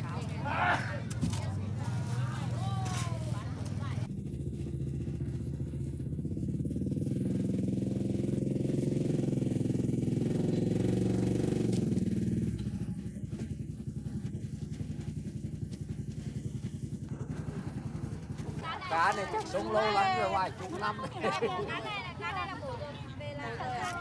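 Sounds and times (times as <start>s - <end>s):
small engine running: 0.0s - 22.6s.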